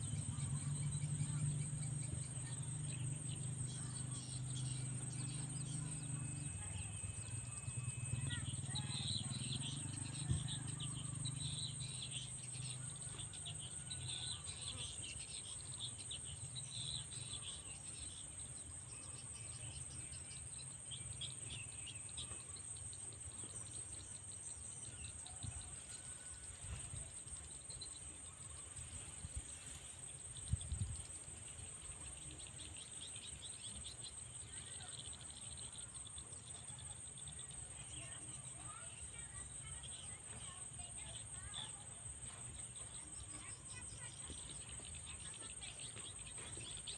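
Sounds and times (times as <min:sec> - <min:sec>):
insect trill: 0:00.0 - 0:46.9.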